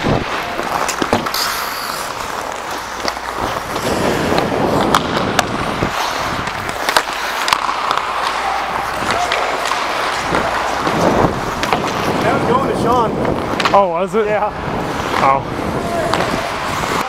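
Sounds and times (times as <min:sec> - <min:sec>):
hockey sticks and puck clacking: 0:00.0 - 0:17.0
skate blades scraping ice: 0:00.0 - 0:17.0.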